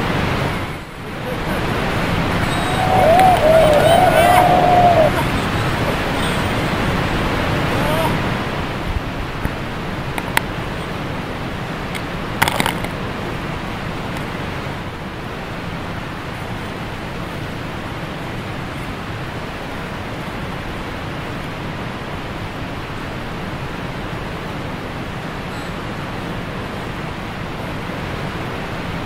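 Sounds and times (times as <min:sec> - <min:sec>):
river current rushing: 0:00.0 - 0:29.0.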